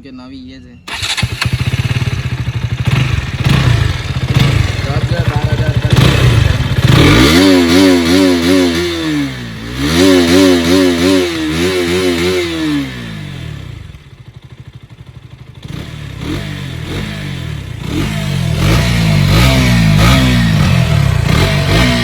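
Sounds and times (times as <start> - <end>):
motorcycle engine revving: 0.9 - 22.0.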